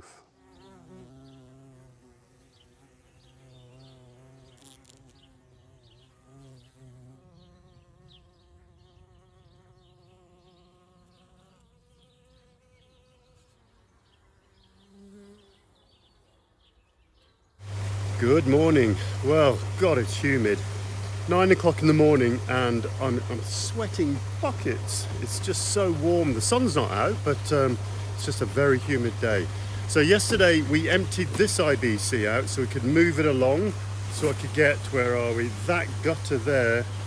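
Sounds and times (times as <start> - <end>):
bumblebee buzzing: 0.0 - 37.0.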